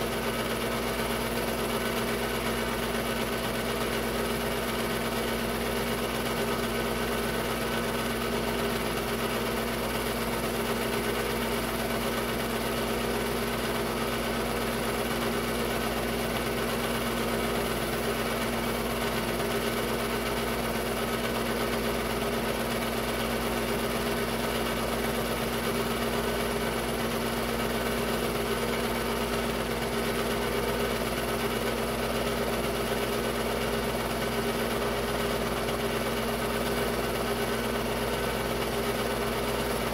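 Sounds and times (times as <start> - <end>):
film projector mechanical hum: 0.0 - 39.9.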